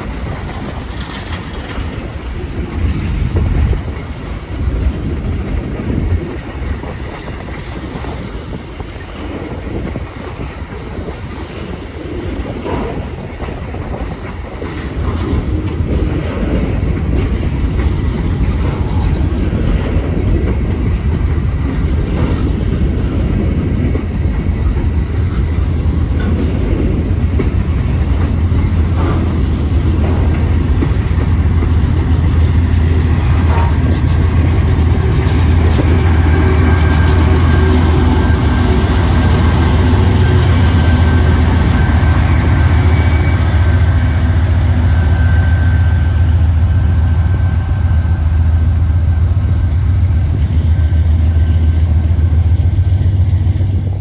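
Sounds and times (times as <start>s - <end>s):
diesel locomotive engine drone: 0.0s - 54.0s
train wheels clattering on track: 0.0s - 54.0s.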